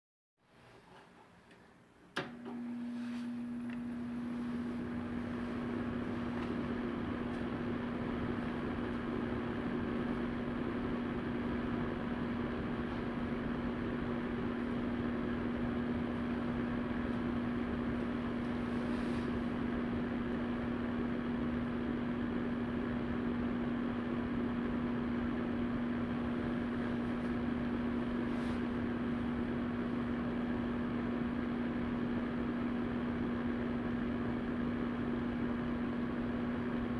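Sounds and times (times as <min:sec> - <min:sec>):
steady low hum: 0:01.2 - 0:36.9
fan heater air rushing: 0:02.2 - 0:36.9.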